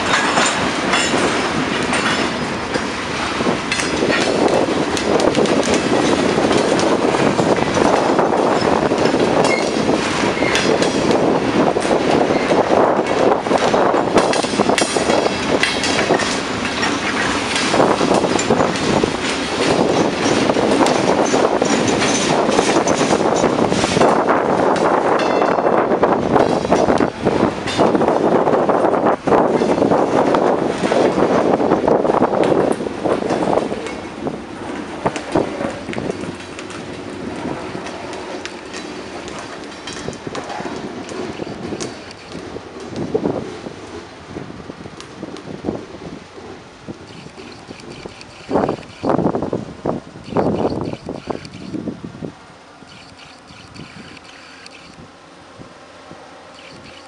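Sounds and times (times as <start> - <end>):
train wheels clattering on track: 0.0 - 51.8
wind on microphone: 0.0 - 57.0.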